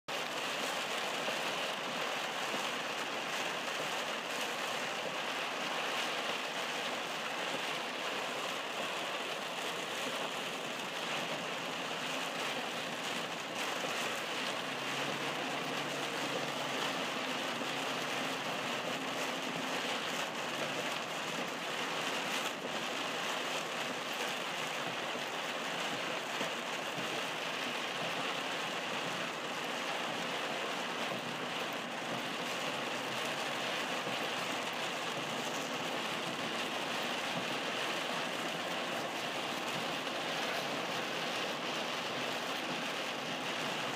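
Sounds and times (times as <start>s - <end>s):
heavy rain on car roof: 0.1s - 43.9s
tyre spray on wet road: 0.3s - 24.2s, 27.5s - 43.9s.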